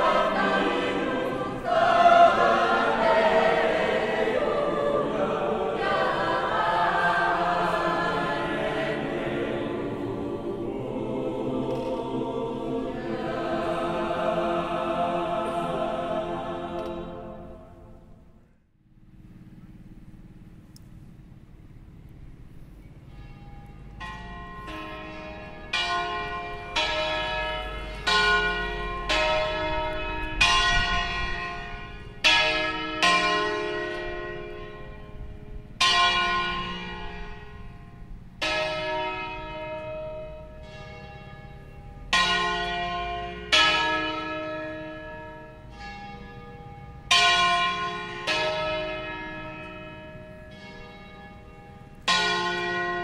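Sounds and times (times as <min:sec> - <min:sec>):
church bells pealing: 0:00.0 - 0:18.1, 0:21.3 - 0:53.0.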